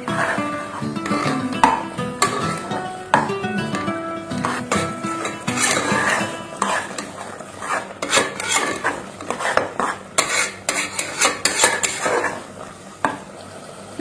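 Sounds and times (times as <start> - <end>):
spoon scraping and clinking pan: 0.0 - 3.3, 4.3 - 12.4.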